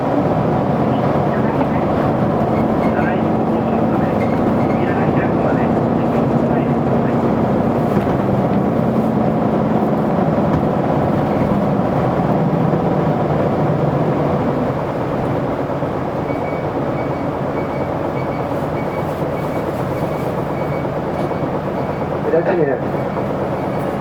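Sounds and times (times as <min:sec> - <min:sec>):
bus diesel engine: 0:00.0 - 0:24.0
road noise: 0:00.0 - 0:24.0.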